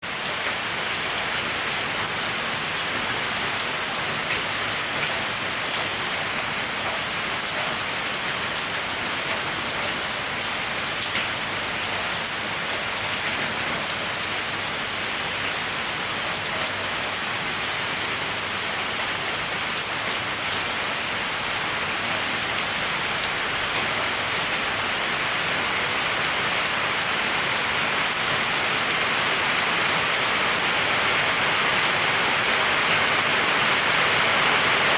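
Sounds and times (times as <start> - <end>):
raindrops pattering on surfaces: 0.1 - 34.9.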